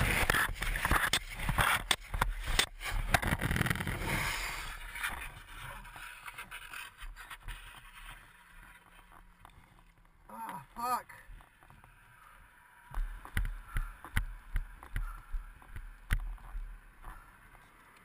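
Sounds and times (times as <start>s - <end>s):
scraping along asphalt: 0.0s - 18.0s.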